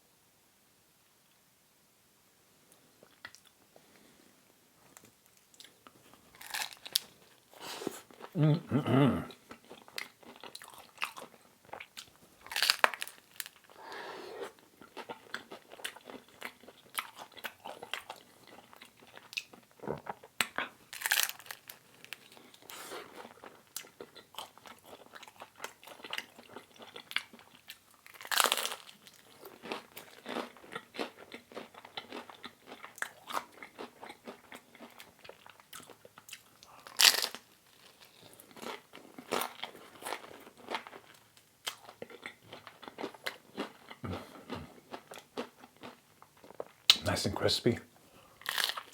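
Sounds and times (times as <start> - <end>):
crisp crunches of pizza: 5.5 - 13.8, 14.4 - 47.4, 48.4 - 48.9.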